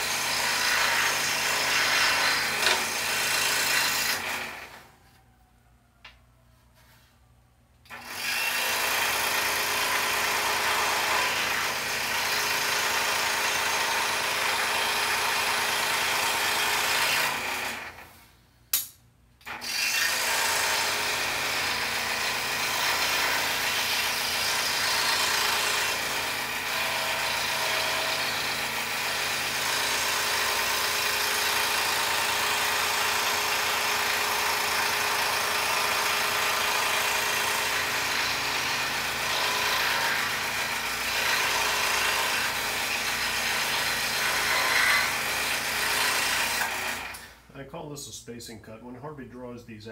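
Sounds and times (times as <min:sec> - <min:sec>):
scroll saw cutting wood: 0:00.0 - 0:04.9, 0:07.9 - 0:18.1, 0:19.4 - 0:47.5.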